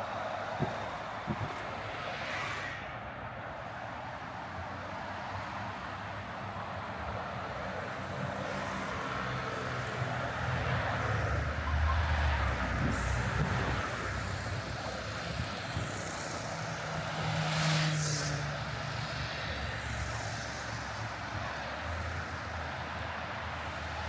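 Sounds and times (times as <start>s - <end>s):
hum of passing cars: 0.2s - 24.0s.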